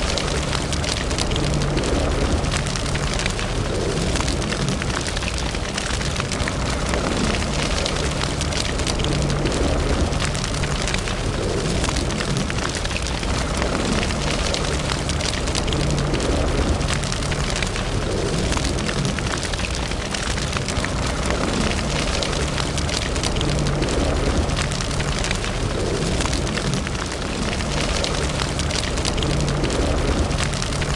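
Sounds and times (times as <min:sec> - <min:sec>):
fire crackles and pops: 0:00.0 - 0:30.9
wood fire burning: 0:00.0 - 0:30.9.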